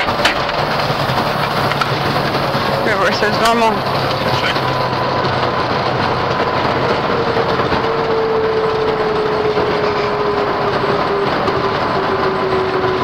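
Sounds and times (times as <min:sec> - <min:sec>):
jet engines roaring in reverse thrust: 0:00.0 - 0:13.0
rushing runway noise: 0:00.0 - 0:13.0
steady tone dropping in pitch: 0:00.0 - 0:13.0.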